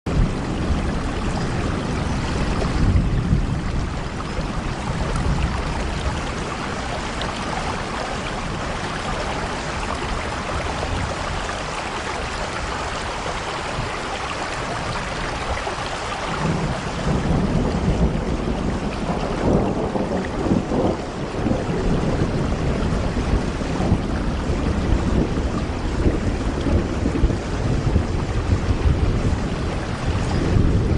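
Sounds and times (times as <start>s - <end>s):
heavy rain: 0.1s - 30.9s.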